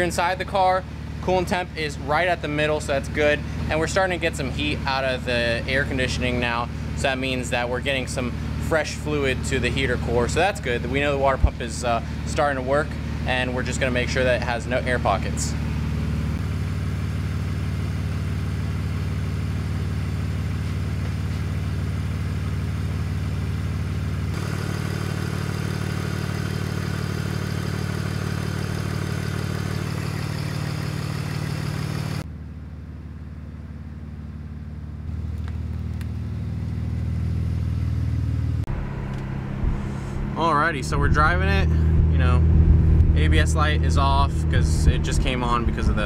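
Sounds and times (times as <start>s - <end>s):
loud leaking exhaust: 0.0s - 32.2s, 35.0s - 46.0s
car engine idling: 0.0s - 46.0s.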